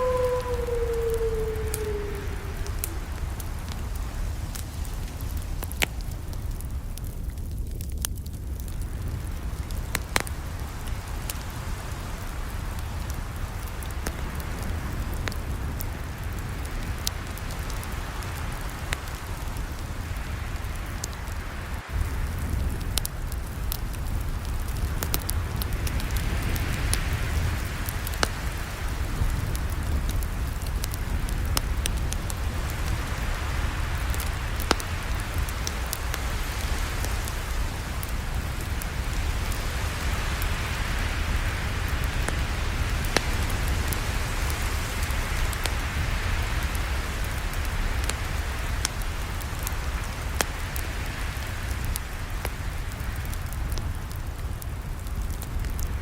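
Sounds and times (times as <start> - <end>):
campfire flames rushing: 0.0 - 56.0
fire crackling and popping: 0.0 - 56.0.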